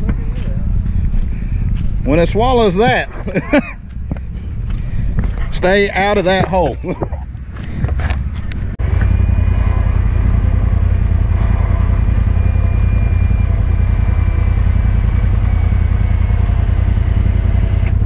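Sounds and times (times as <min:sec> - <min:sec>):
engine idling rumble: 0:00.0 - 0:18.0.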